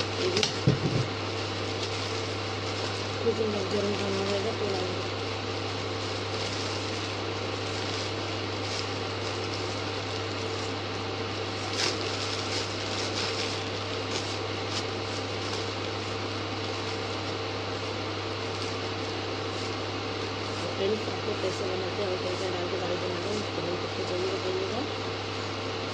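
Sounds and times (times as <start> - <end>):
plastic bag crinkling: 0.0 - 24.8.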